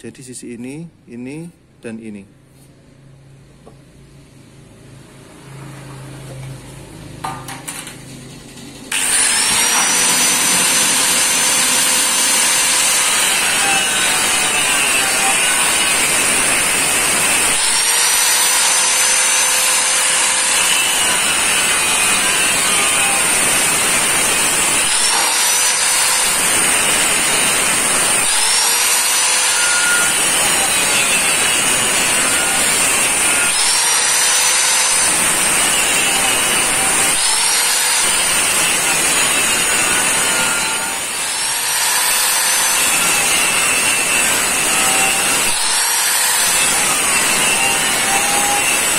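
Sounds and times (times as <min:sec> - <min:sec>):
angle grinder cutting steel pipe: 0:08.9 - 0:48.9.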